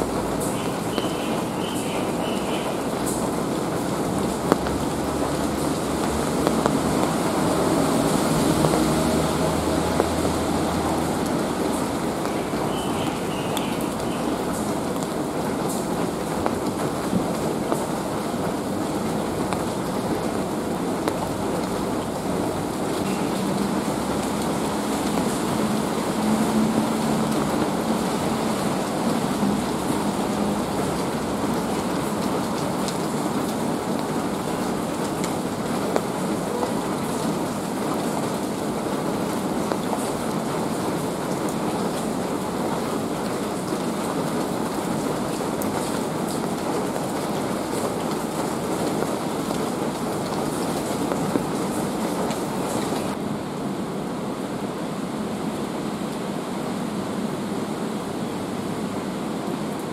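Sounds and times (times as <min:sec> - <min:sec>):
low traffic rumble: 0:00.0 - 0:59.9
steady rain falling: 0:00.0 - 0:59.9.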